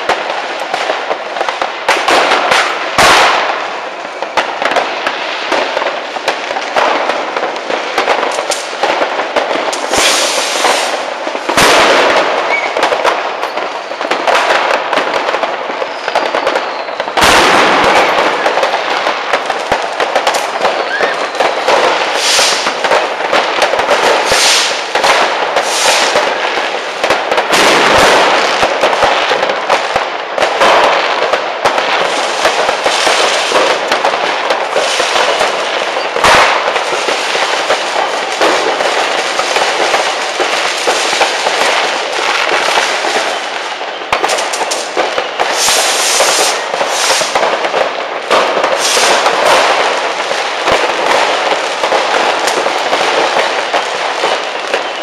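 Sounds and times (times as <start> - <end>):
firecrackers crackling: 0.0 - 55.0
fireworks booming bursts: 0.0 - 55.0.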